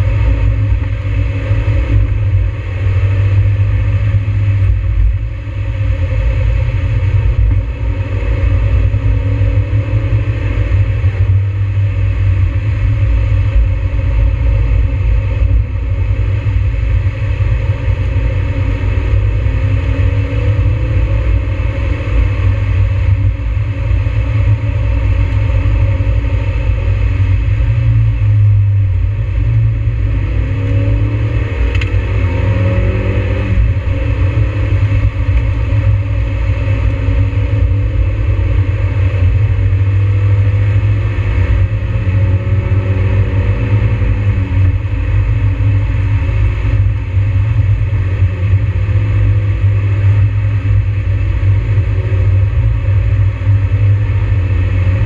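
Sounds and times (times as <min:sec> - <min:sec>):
car engine revving: 0:00.0 - 0:55.0
low rumble: 0:00.0 - 0:55.0.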